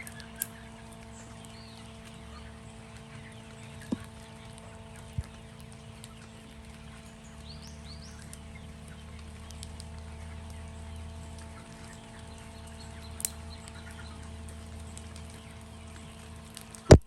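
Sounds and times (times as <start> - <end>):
chickens clucking: 0.0 - 16.8
steady low hum: 0.0 - 17.0.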